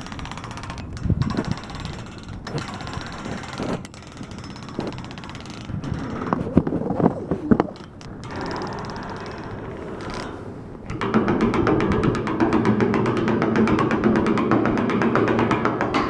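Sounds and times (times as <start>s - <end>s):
stick rattling chain-link fence: 0.0s - 16.0s.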